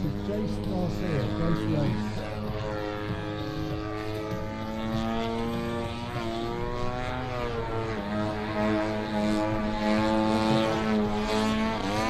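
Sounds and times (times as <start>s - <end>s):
model plane engine in flight: 0.0s - 12.0s.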